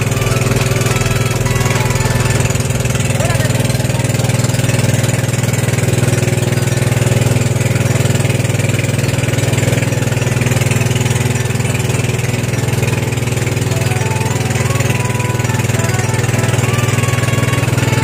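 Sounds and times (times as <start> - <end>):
boat engine drone: 0.0 - 18.0.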